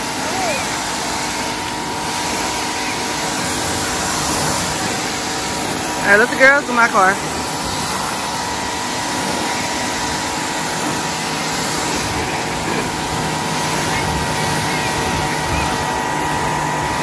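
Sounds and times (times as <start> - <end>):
pressure washer motor whine: 0.0 - 17.0
water spray hiss: 0.0 - 17.0.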